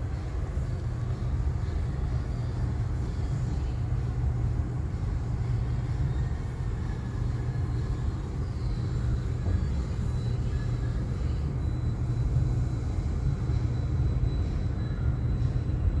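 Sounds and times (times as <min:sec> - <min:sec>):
low rumble of moving vessel: 0:00.0 - 0:16.0.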